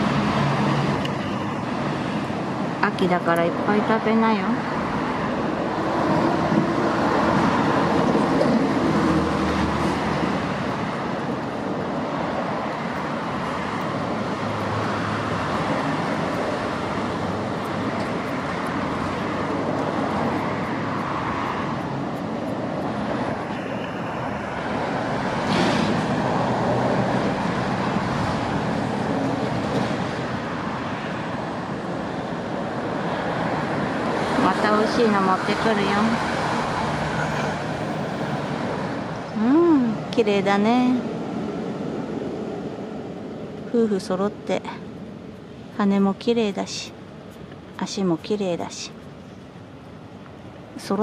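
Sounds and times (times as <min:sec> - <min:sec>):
road traffic rumbling hiss: 0:00.0 - 0:51.0.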